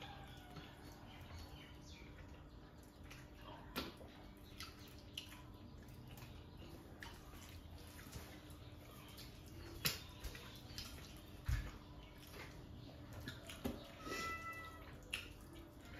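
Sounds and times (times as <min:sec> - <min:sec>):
chewing and lip smacks: 0:00.0 - 0:14.1, 0:14.8 - 0:15.9
fingers squishing food on plates: 0:00.0 - 0:15.9.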